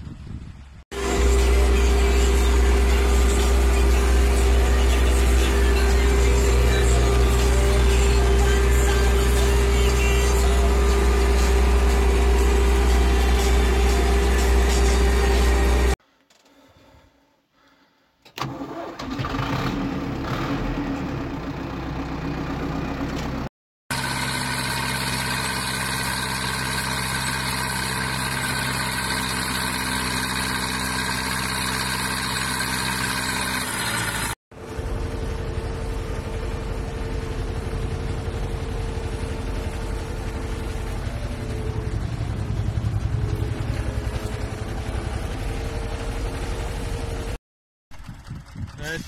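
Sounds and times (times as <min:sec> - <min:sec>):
diesel tractor engine running: 0:00.1 - 0:16.0, 0:18.4 - 0:49.0
tractor engine starting: 0:01.0 - 0:16.5, 0:18.2 - 0:49.0.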